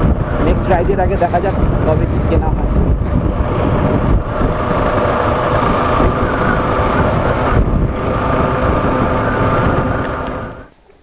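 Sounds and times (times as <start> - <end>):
motorcycle engine running: 0.0 - 10.7
wind rush over microphone: 0.0 - 10.7.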